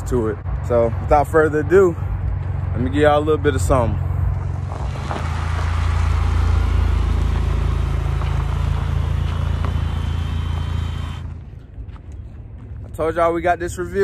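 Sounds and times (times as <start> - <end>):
car engine deep rumble: 0.0 - 13.9.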